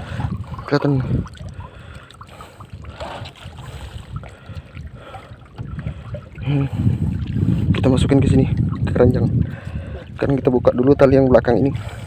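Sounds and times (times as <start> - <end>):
short water splashes: 0.0 - 12.0
water lapping against boat hull: 0.0 - 12.0
wind rumbling on microphone: 0.0 - 12.0.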